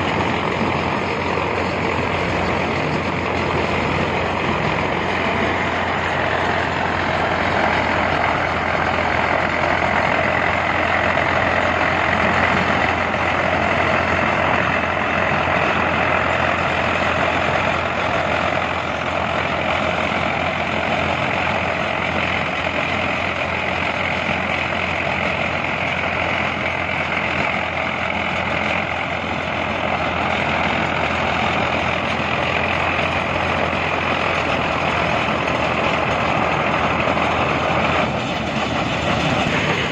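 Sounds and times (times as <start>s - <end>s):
heavy construction machinery running: 0.0s - 39.9s.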